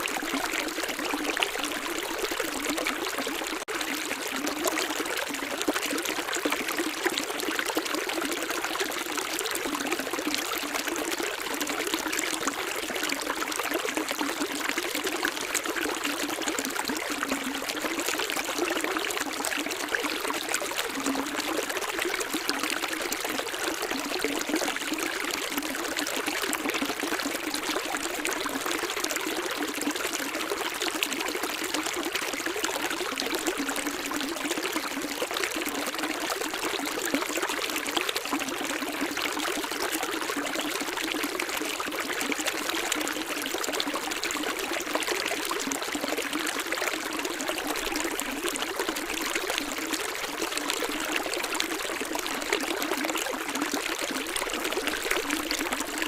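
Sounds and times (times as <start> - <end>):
stream trickling and gurgling: 0.0 - 56.0.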